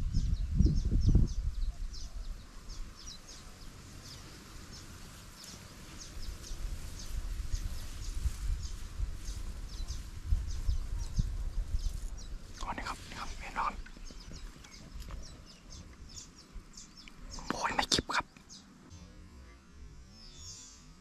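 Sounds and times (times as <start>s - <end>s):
bird chirping: 0.0s - 19.1s.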